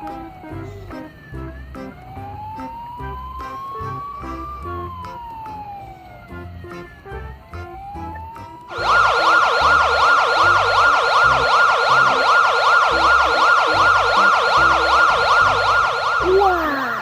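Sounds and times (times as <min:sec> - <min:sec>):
electronic police siren yelping: 0:00.0 - 0:17.0.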